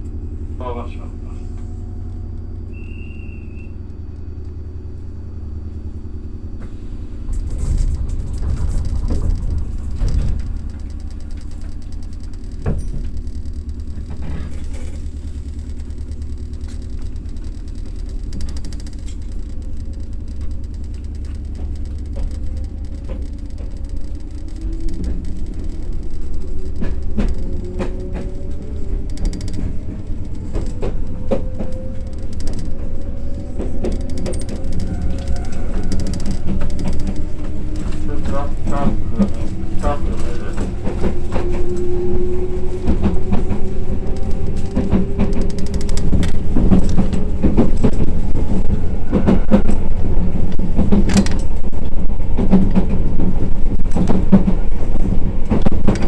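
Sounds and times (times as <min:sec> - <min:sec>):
train motor whine rising: 0:00.0 - 0:52.3
train rumble with wheel knocks: 0:00.0 - 0:56.0.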